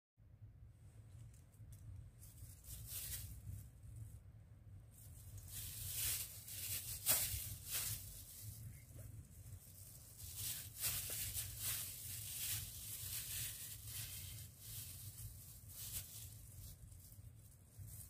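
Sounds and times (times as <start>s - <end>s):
faint low hum: 0.2s - 18.0s
plastic bag crinkling: 2.1s - 4.1s, 4.9s - 18.0s.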